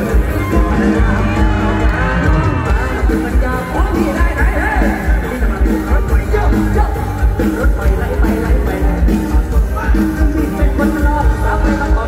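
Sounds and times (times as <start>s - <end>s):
fast bass drum beat: 0.0s - 12.0s
live band music over loudspeakers: 0.0s - 12.0s.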